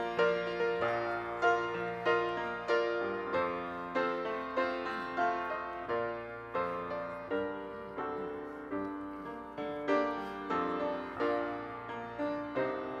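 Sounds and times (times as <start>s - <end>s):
grand piano playing: 0.0s - 13.0s.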